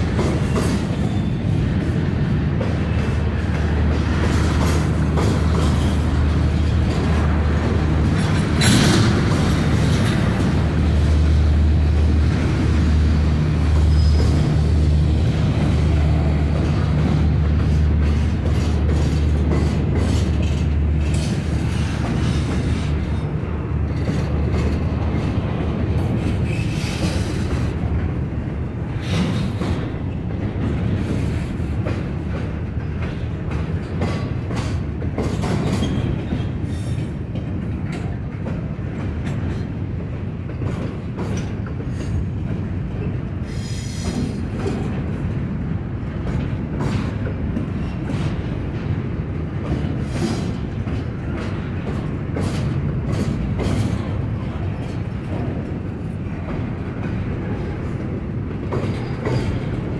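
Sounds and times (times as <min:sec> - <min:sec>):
deep train engine drone: 0:00.0 - 0:59.9
rolling clatter of train cars: 0:00.0 - 0:59.9
wheels clicking over rail joints: 0:00.0 - 0:59.9.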